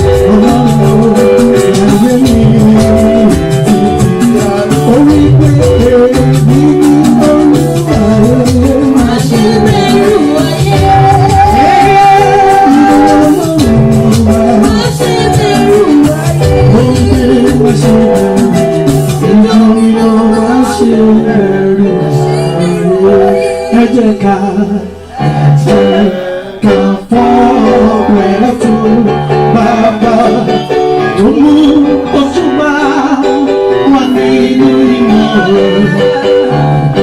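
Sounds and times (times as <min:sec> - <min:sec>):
loud music with singing and guitar: 0:00.0 - 0:37.0.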